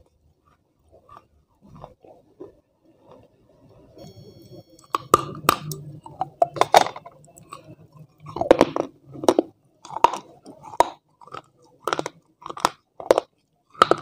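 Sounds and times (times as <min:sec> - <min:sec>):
crunchy chewing: 0:00.0 - 0:03.8, 0:04.8 - 0:14.0.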